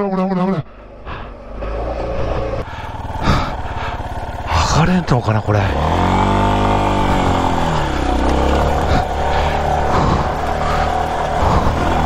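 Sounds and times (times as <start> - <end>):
motorcycle engine revving: 1.3 - 12.0.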